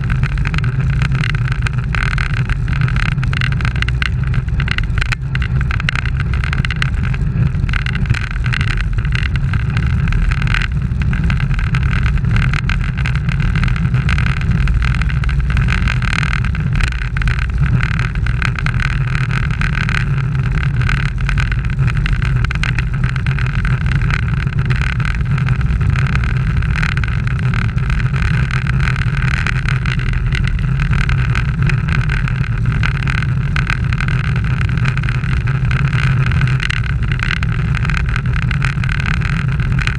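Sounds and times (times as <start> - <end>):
bicycles rolling on asphalt: 0.0 - 39.9
wind noise: 0.0 - 39.9.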